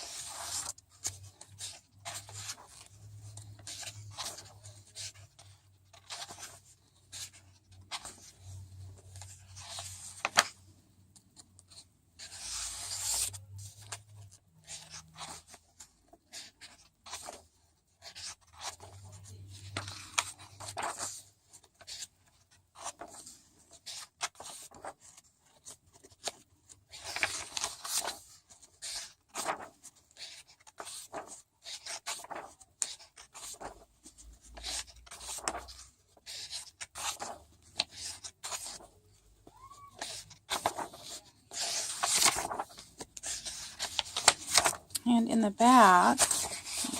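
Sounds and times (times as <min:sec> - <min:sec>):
pages turning and rustling: 0:00.0 - 0:10.6, 0:11.2 - 0:46.9.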